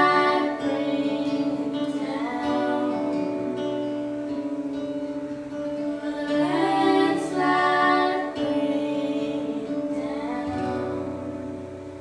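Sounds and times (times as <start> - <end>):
person singing long notes: 0.0 - 5.1, 5.8 - 12.0
acoustic guitar: 0.0 - 12.0.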